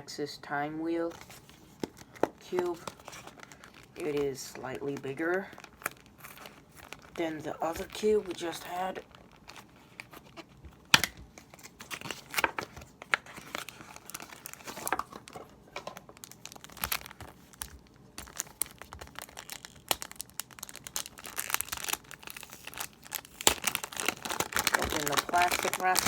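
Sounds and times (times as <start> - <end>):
plastic wrapping crinkling: 1.1 - 26.0
plastic ripping: 1.2 - 26.0.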